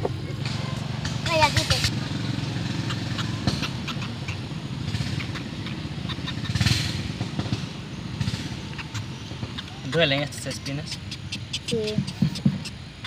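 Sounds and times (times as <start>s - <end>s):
small engine chugging: 0.0s - 13.0s.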